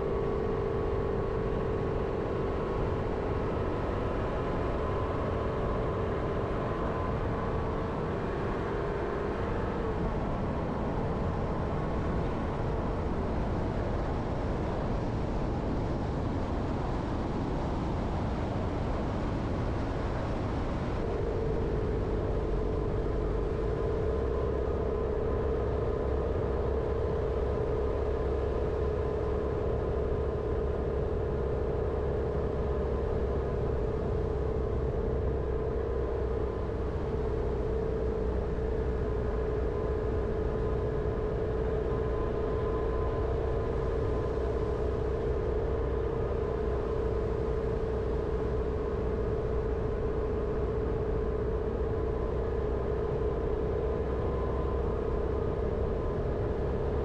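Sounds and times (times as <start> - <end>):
car engine and tyre rumble: 0.0 - 57.0
droning tone: 0.0 - 57.0.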